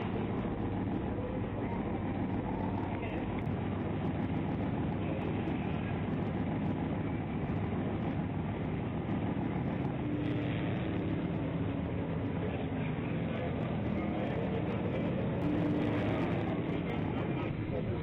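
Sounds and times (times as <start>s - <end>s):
vehicle and road rumble: 0.0s - 18.0s.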